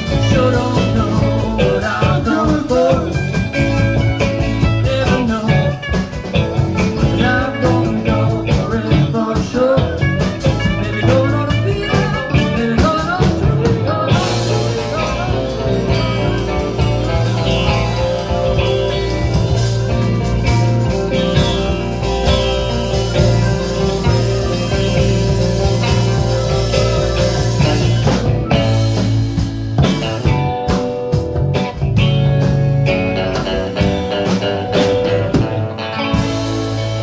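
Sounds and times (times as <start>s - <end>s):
rock band playing: 0.0s - 37.0s.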